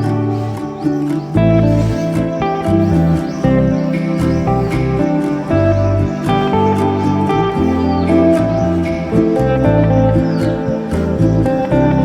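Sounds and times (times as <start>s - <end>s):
plucked guitar music: 0.0s - 12.0s.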